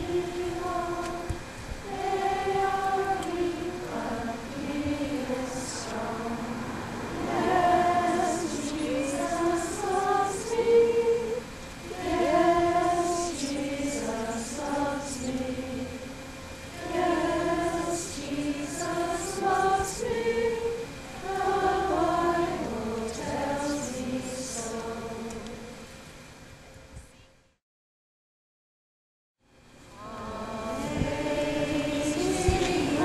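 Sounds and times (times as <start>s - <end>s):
group singing a slow hymn: 0.0s - 26.4s, 29.9s - 33.0s.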